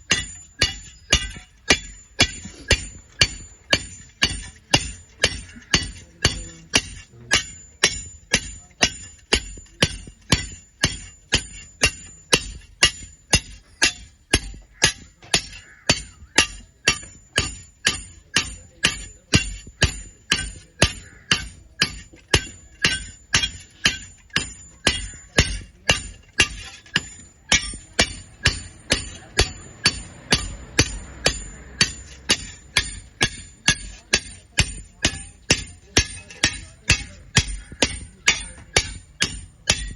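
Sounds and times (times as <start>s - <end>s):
hammer blows on iron: 0.0s - 39.9s.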